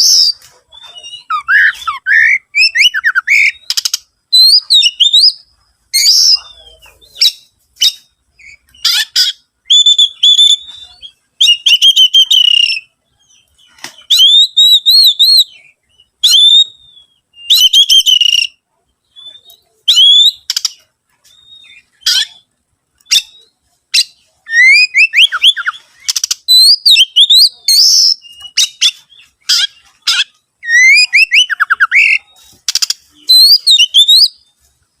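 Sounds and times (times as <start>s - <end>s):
bird singing whistled phrases: 0.0s - 22.4s, 23.0s - 34.5s.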